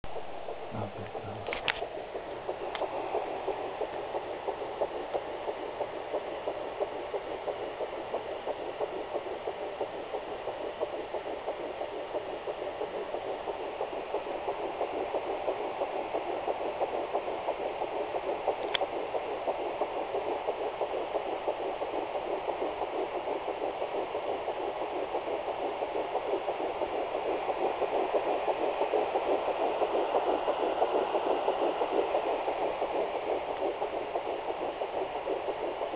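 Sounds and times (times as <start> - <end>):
fetal heartbeat doppler whoosh: 0.0 - 35.9.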